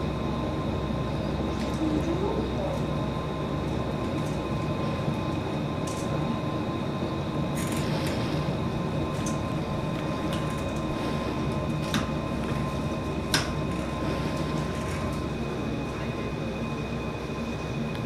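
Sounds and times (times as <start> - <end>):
faint steady whines: 0.0 - 18.0
low rumbling background noise: 0.0 - 18.0.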